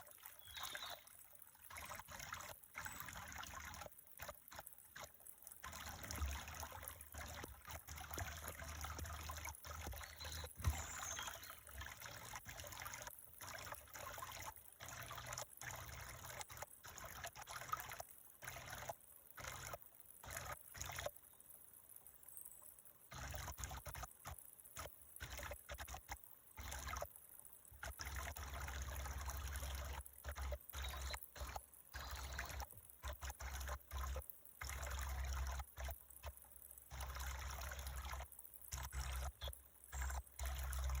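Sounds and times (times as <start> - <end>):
water trickling: 0.0 - 41.0.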